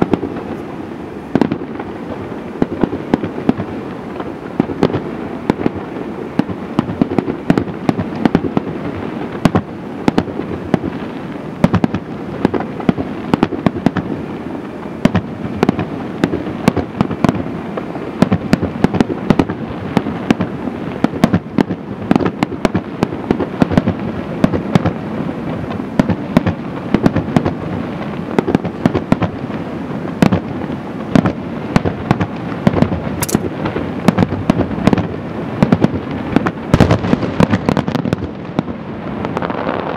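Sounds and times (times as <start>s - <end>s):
fireworks booming and cracking: 0.0s - 39.9s.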